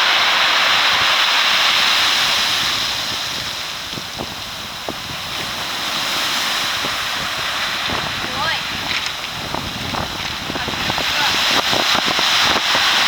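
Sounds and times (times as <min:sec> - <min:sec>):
storm wind: 0:00.0 - 0:13.0
surf washing over boulders: 0:00.0 - 0:13.0.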